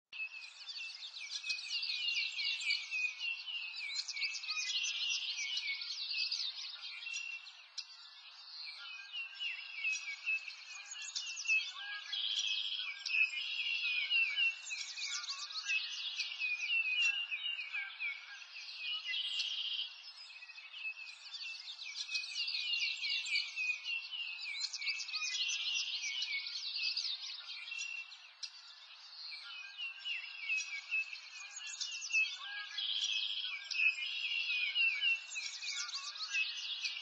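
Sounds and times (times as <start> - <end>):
songbirds chirping and twittering: 0.0 - 37.0.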